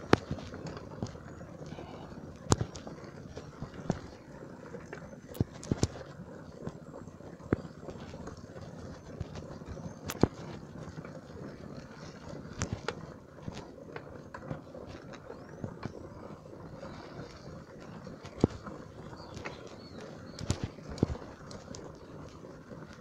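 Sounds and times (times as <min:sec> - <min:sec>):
bicycle tyres rumbling on mud: 0:00.0 - 0:23.0.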